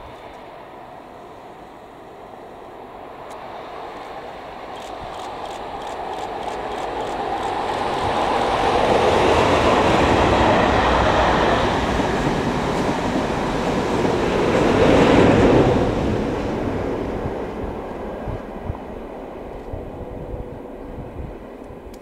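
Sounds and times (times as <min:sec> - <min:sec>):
diesel locomotive passing: 0:00.0 - 0:22.0
train coaches rumbling on rails: 0:00.0 - 0:22.0.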